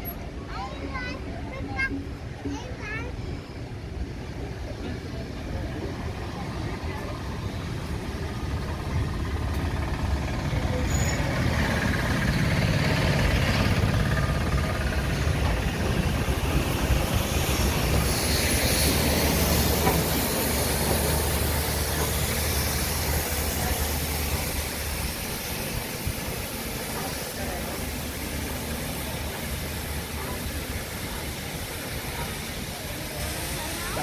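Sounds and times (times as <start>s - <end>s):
train wheels rumbling on rails: 0.0s - 34.0s
steam hissing: 5.3s - 34.0s.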